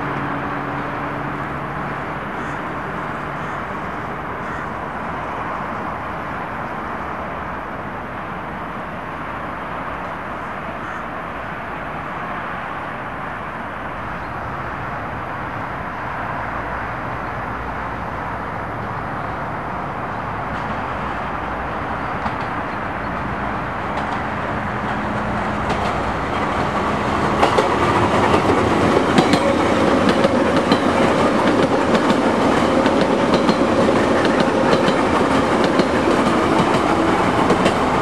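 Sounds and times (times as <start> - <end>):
electric metro train running: 0.0 - 38.0
road traffic rumble: 0.0 - 38.0.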